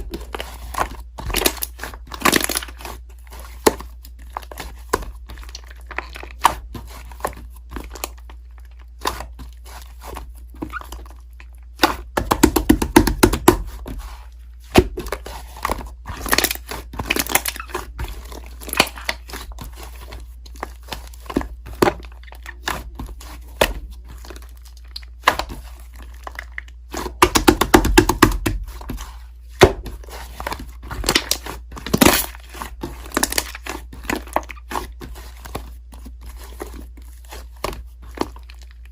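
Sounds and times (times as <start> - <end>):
slime crackling and squelching: 0.0 - 38.9.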